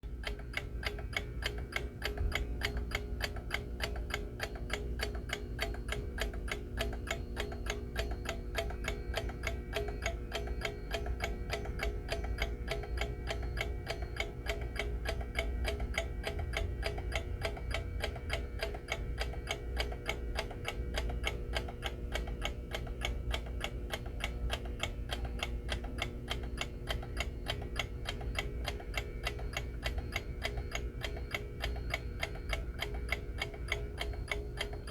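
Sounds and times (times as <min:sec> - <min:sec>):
alarm clock ticking: 0:00.2 - 0:34.9.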